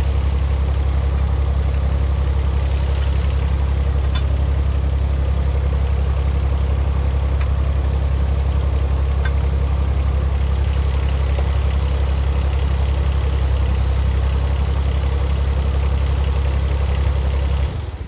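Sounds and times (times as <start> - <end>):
excavator engine idling: 0.0 - 18.0.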